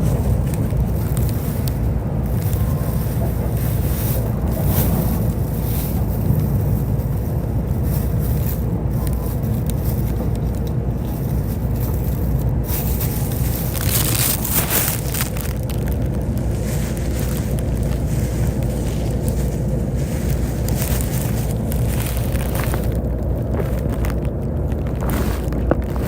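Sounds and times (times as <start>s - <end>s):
faint steady hum: 0.0s - 26.0s
train wheels rumbling on rail: 0.0s - 26.0s.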